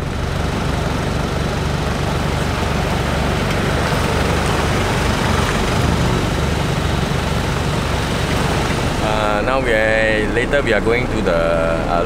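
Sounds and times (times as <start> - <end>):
off-road vehicles driving on dirt: 0.0 - 12.0.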